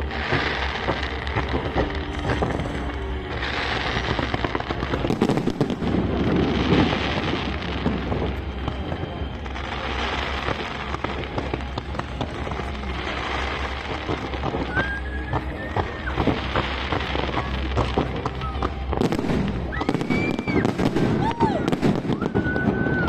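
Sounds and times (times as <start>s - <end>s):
fireworks booms: 0.0s - 23.0s
fireworks crackling: 0.0s - 23.0s.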